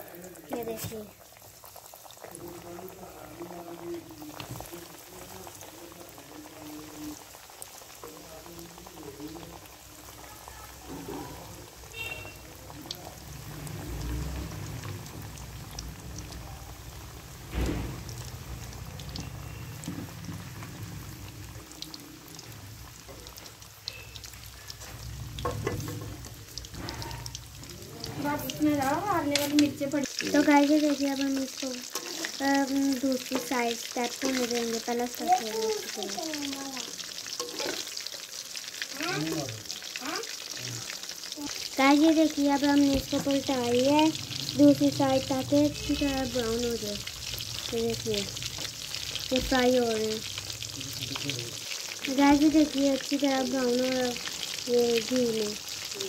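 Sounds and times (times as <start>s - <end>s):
fat sizzling and crackling: 0.0s - 56.0s.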